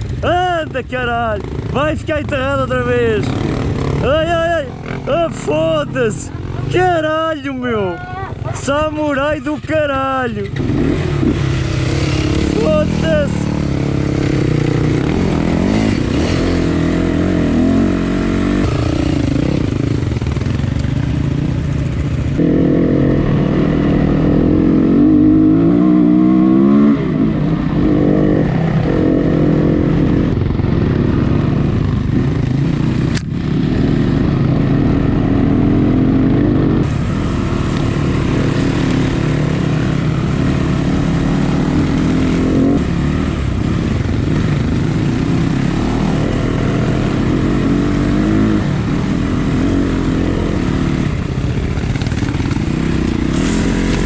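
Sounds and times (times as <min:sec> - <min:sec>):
dirt bike engine revving: 0:00.8 - 0:54.0.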